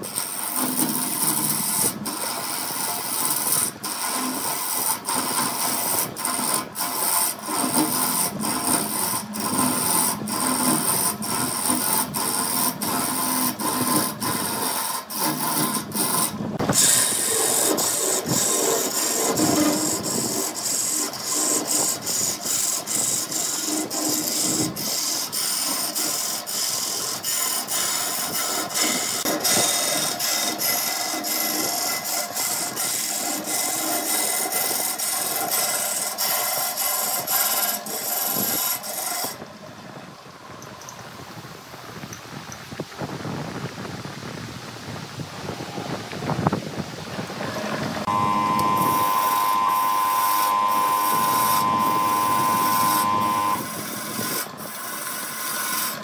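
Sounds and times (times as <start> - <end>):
tool scraping against wood: 0.0 - 39.4, 47.5 - 56.0.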